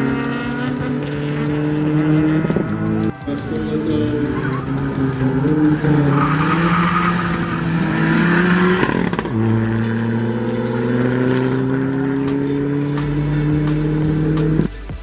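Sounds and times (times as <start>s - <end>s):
car engine accelerating hard: 0.0s - 14.8s.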